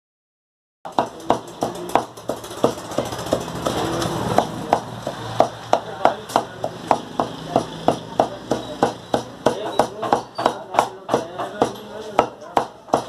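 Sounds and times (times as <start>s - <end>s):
cleaver chopping meat on wood block: 0.9s - 13.0s.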